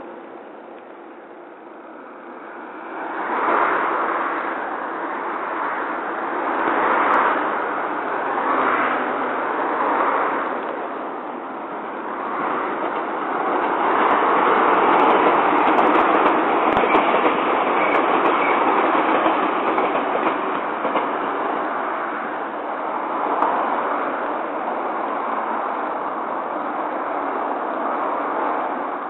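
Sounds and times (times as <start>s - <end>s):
electric train passing at speed: 0.0s - 29.0s
car traffic: 0.1s - 29.0s.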